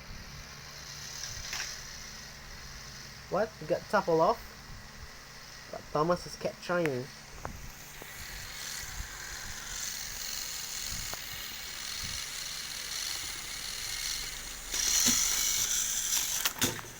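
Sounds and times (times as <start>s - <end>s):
toy train motor whirring: 0.0s - 16.9s.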